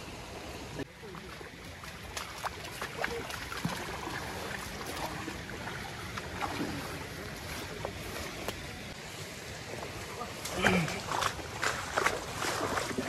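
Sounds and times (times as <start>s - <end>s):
water sloshing and splashing: 0.9s - 13.0s.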